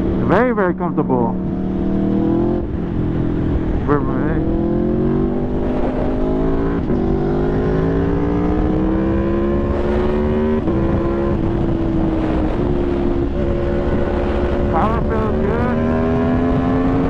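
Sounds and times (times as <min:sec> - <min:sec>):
motorcycle engine accelerating: 0:00.0 - 0:17.0
wind rush: 0:01.4 - 0:17.0.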